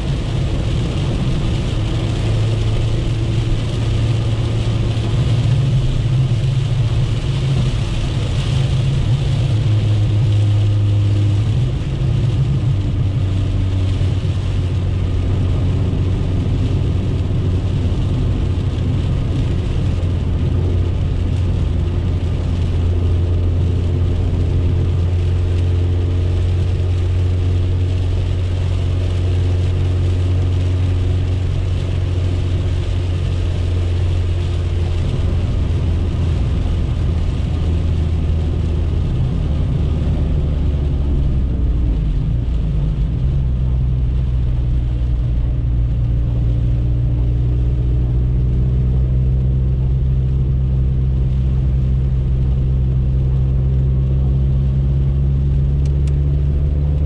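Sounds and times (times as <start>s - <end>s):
car engine droning: 0.0s - 57.0s
heavy rain on car: 0.0s - 57.0s
tyre noise on wet road: 0.0s - 57.0s.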